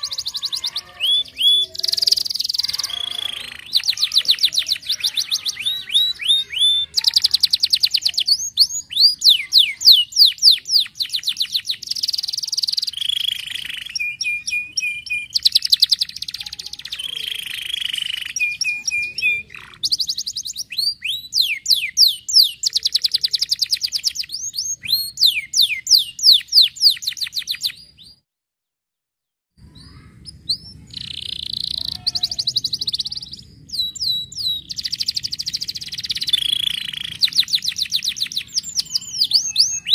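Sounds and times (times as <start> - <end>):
canary singing high trills: 0.0 - 28.2, 29.6 - 39.9.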